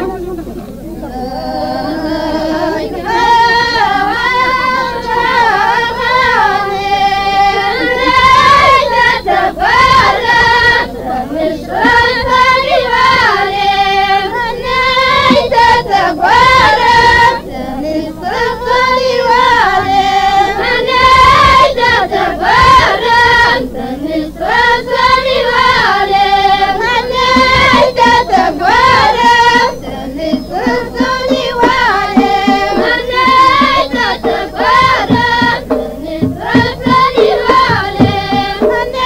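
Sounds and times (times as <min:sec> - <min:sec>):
chorus of high voices chanting: 0:00.9 - 0:39.0.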